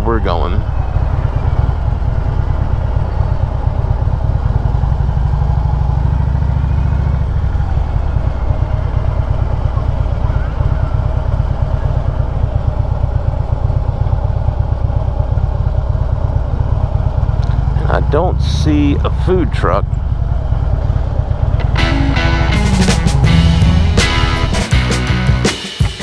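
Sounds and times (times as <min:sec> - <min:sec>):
motorcycle engine idling: 0:00.8 - 0:26.0.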